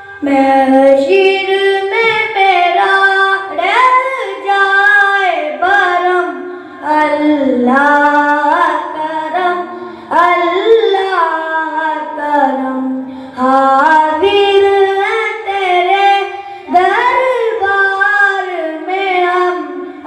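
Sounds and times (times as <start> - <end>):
boy singing unaccompanied: 0.0 - 20.0.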